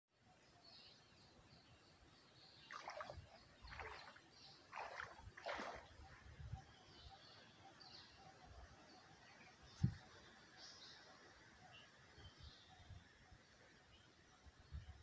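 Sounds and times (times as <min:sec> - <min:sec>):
faint birds chirping: 0:00.2 - 0:15.0.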